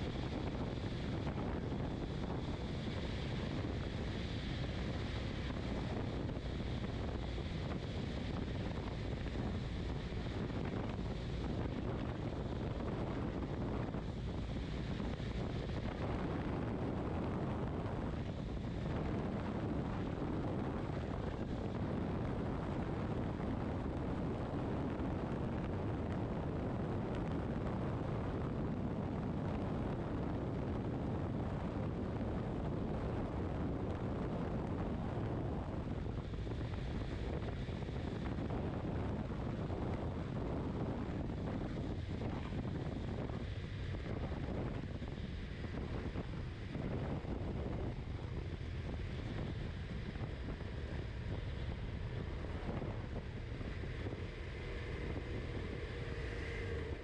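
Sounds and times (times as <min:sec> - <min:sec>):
motorcycle engine drone: 0:00.0 - 0:57.0
tyres on road: 0:00.0 - 0:57.0
wind rush on microphone: 0:00.0 - 0:57.0.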